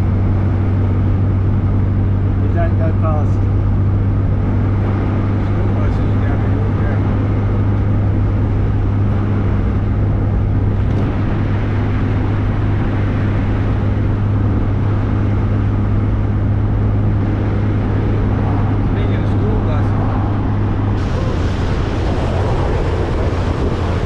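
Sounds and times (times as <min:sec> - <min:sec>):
car engine drone: 0:00.0 - 0:24.0
road and tyre noise: 0:00.0 - 0:24.0.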